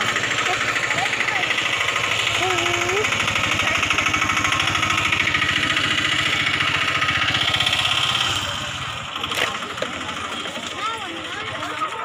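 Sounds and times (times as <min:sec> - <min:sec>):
small engine chugging: 0:00.0 - 0:12.0.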